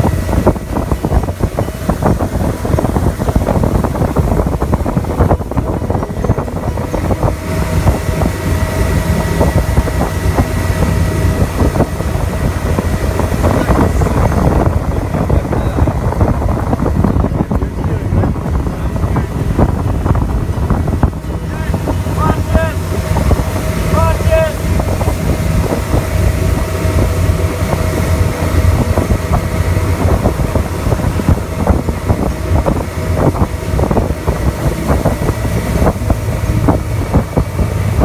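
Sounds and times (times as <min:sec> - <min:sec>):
boat engine running: 0:00.0 - 0:38.0
rushing water: 0:00.0 - 0:38.0
wind buffeting microphone: 0:00.0 - 0:38.0.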